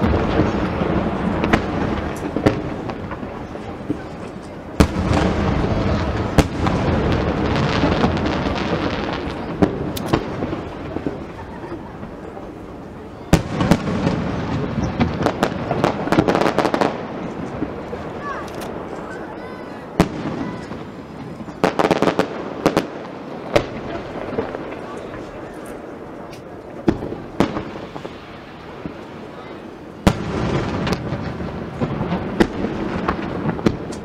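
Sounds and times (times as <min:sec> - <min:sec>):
crackling firework bangs: 0:00.0 - 0:34.0
fireworks rumbling: 0:00.0 - 0:34.0
sharp firework bangs: 0:00.0 - 0:34.0.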